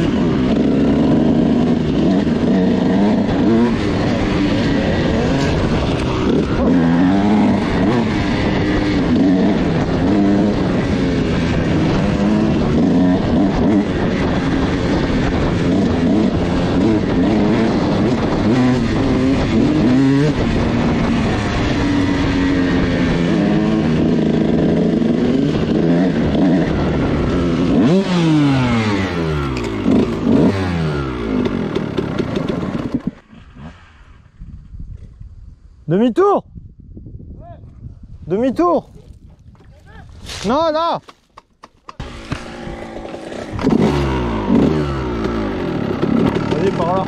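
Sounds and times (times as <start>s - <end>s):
dirt bike engine revving: 0.0s - 34.1s, 41.8s - 47.0s.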